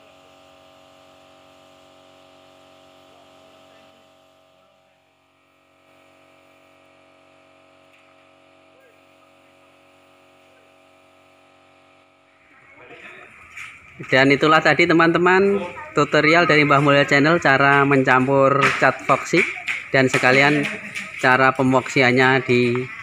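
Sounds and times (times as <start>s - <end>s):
air compressor humming: 0.0s - 23.0s.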